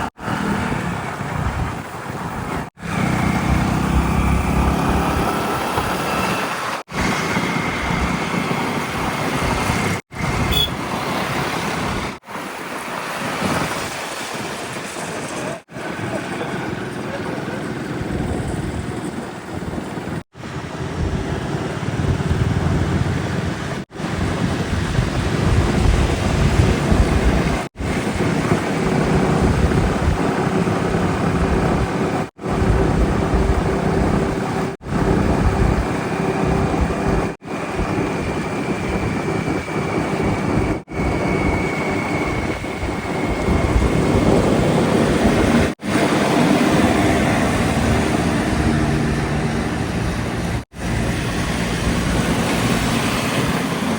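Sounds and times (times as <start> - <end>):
heavy machinery diesel engines: 0.0 - 12.8, 14.2 - 53.9.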